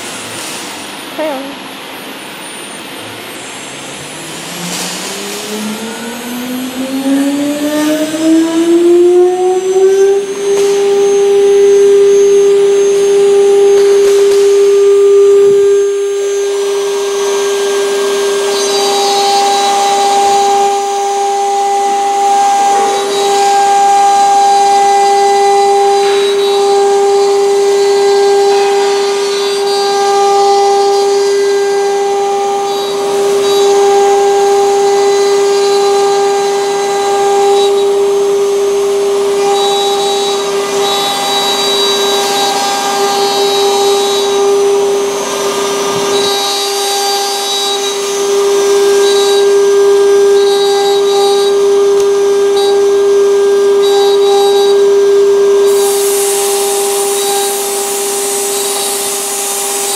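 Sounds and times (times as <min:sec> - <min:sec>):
router cutting wood: 0:00.0 - 0:59.9
wood router whining: 0:00.0 - 0:59.9.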